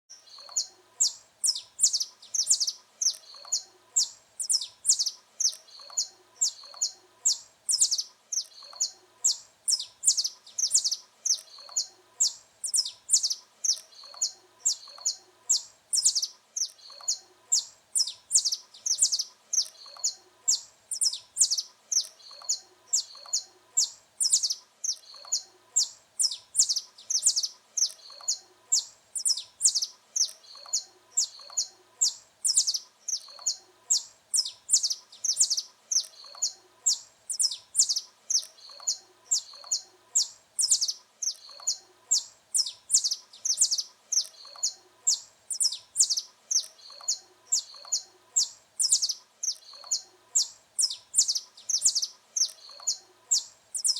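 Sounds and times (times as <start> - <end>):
finch singing high chirps: 0.1 - 53.9.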